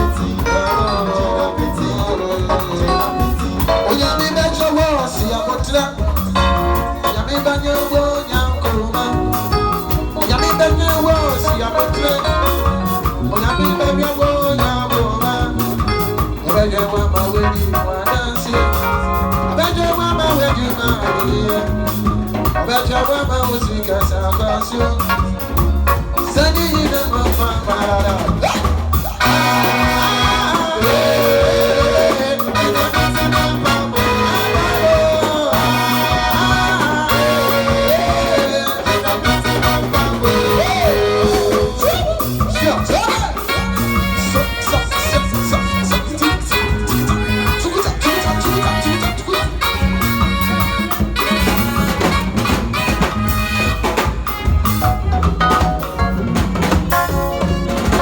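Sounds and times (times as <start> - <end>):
loud music with singing: 0.0 - 58.0.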